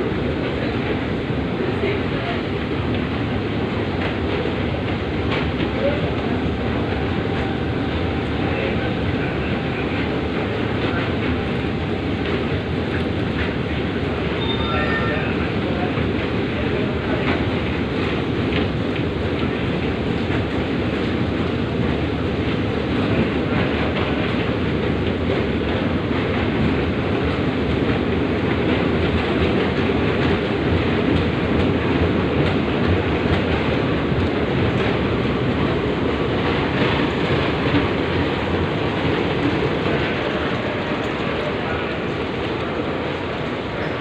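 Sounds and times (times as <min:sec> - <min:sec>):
train wheels on rails: 0:00.0 - 0:44.0
wheels clickety-clack: 0:00.3 - 0:44.0.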